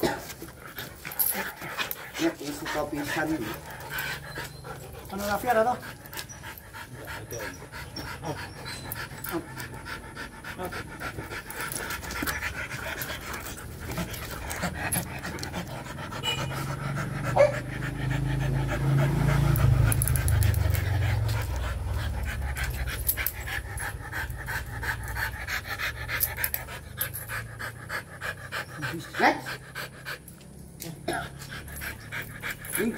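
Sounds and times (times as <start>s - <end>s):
dogs panting: 0.0s - 32.9s.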